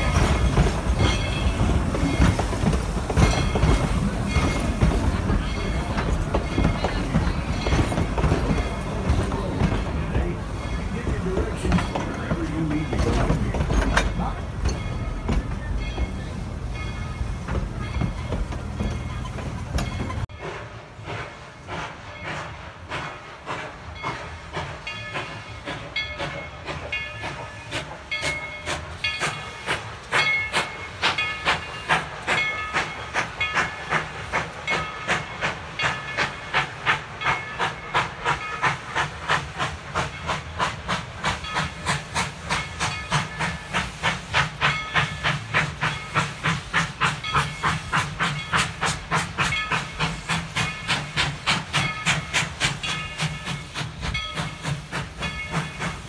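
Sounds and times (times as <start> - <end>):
steam hissing: 0.0 - 56.0
steam locomotive exhaust chuffing: 0.0 - 56.0.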